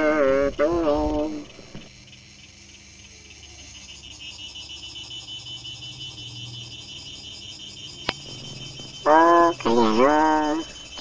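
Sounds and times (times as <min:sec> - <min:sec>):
faint low hum: 0:00.0 - 0:11.0
insects chirping: 0:00.0 - 0:11.0.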